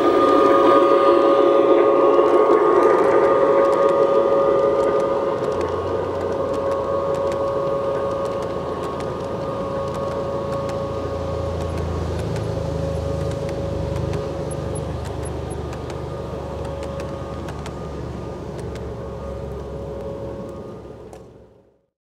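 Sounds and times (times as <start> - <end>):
wheels clicking over rail joints: 0.0 - 21.4
model train rolling: 0.0 - 21.8.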